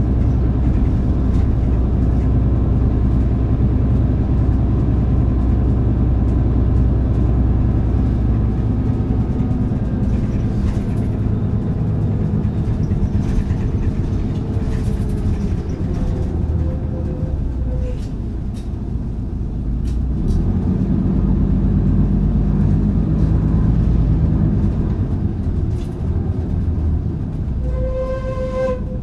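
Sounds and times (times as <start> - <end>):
bus diesel engine droning: 0.0 - 29.0.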